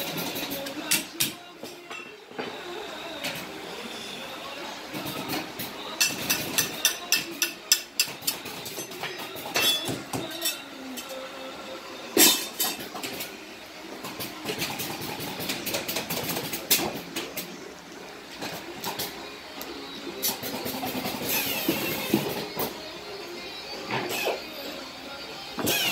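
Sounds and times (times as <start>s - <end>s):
steady background noise: 0.0s - 25.9s.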